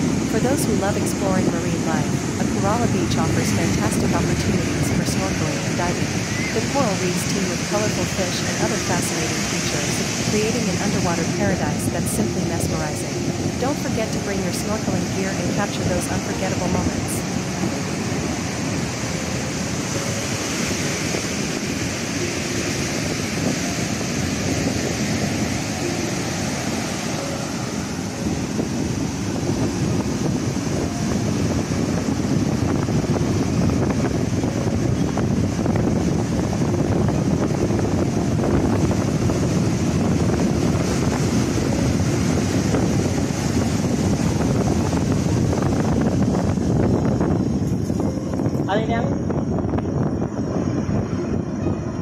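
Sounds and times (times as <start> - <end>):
surf breaking on beach: 0.0 - 48.8
wind buffeting microphone: 0.0 - 52.0.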